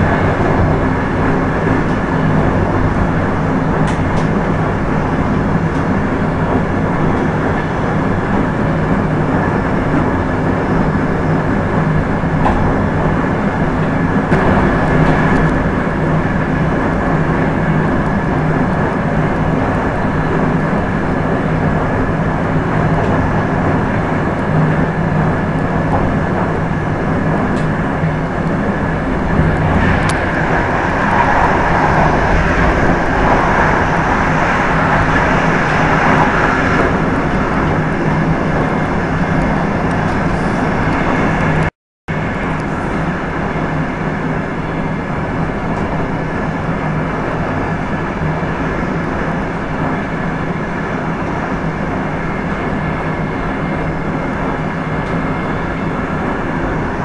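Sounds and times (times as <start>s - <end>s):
train wheel and track rumble: 0.0s - 57.0s.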